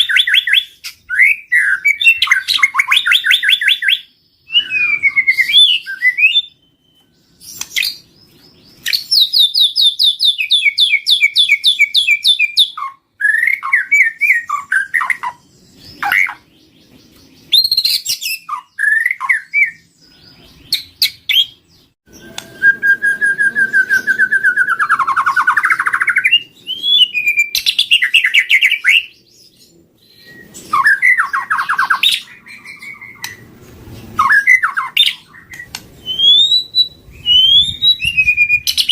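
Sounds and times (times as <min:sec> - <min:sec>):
bird singing whistled song: 0:00.0 - 0:38.9.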